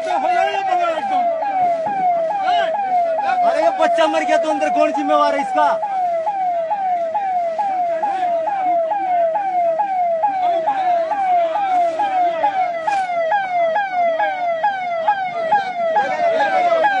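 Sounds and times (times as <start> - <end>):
ambulance siren wailing: 0.0 - 17.0.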